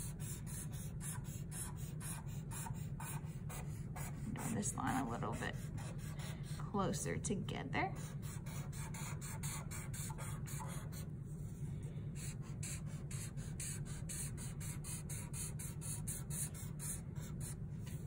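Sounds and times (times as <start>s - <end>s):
marker scratching on paper: 0.0s - 6.6s, 8.0s - 11.1s, 12.2s - 18.0s
steady low hum: 0.0s - 18.0s.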